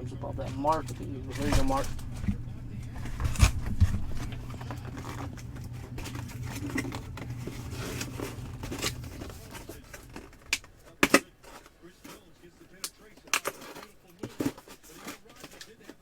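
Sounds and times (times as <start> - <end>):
low steady hum: 0.0 - 14.7
hands handling packaging: 0.1 - 16.0.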